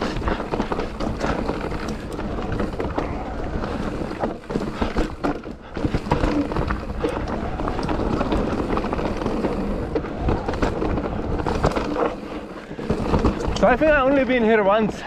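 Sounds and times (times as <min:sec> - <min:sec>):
bike rattling and clacking: 0:00.0 - 0:15.0
bike tyres rumbling on dirt: 0:00.0 - 0:15.0.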